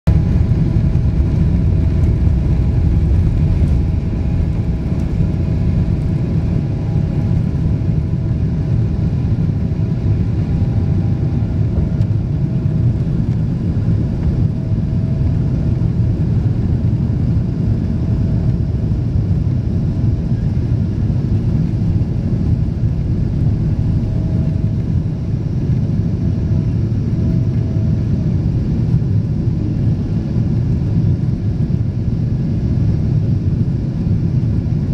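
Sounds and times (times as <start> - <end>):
jet engines roaring: 0.1 - 31.4.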